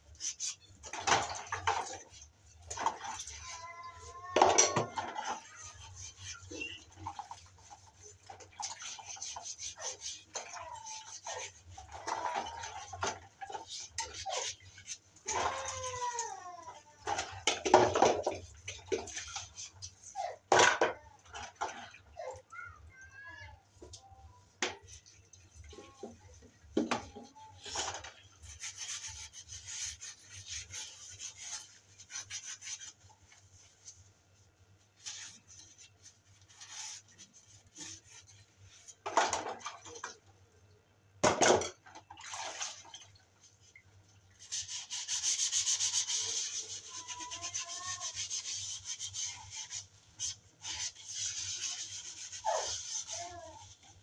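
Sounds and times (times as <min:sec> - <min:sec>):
sponge scrubbing dishes: 0:00.0 - 0:40.2, 0:41.2 - 0:54.0.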